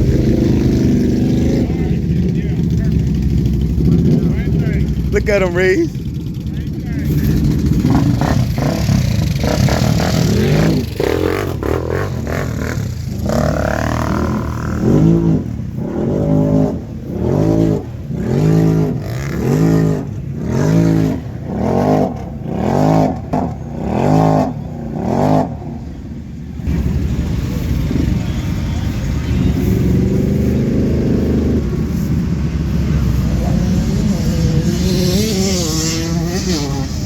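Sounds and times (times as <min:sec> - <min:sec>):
off-road vehicle engine revving: 0:00.0 - 0:37.0.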